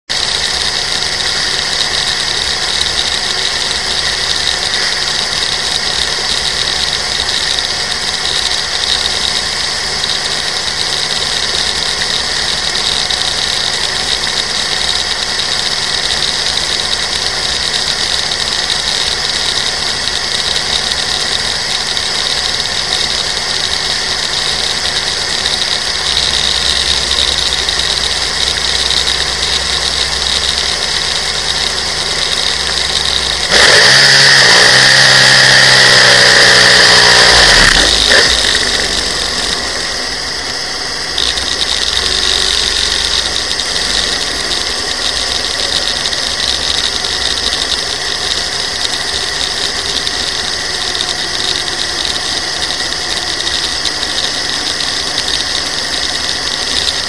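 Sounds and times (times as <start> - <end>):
dragster engine idling: 0.1 - 57.0.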